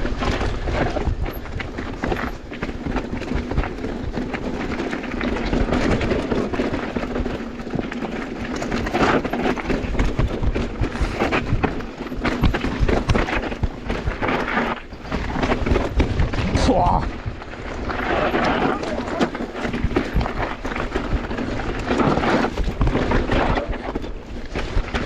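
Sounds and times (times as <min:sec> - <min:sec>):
bike chain and frame rattling: 0:00.0 - 0:25.0
bike tyres on loose ground: 0:00.0 - 0:25.0
wind on microphone: 0:00.0 - 0:25.0.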